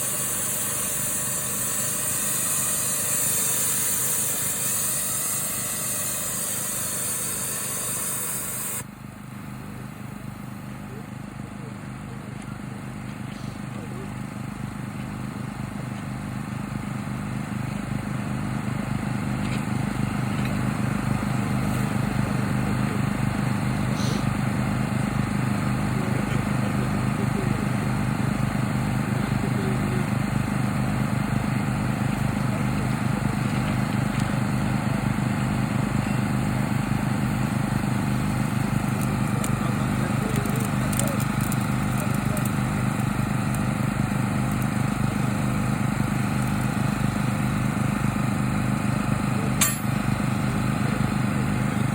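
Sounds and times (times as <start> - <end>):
small engine running: 0.0 - 51.9.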